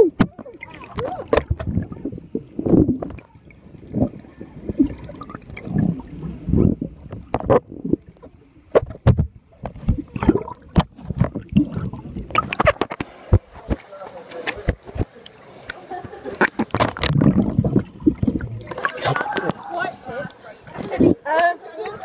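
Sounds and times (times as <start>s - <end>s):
underwater gurgling and sloshing: 0.0s - 22.0s.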